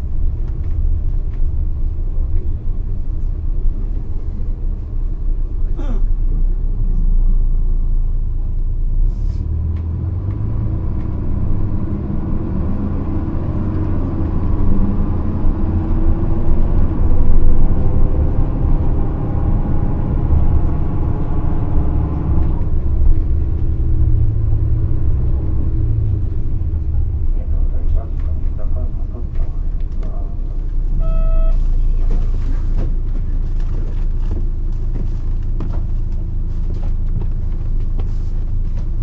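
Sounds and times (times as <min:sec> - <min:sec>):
bus diesel engine rumbling: 0:00.0 - 0:39.0.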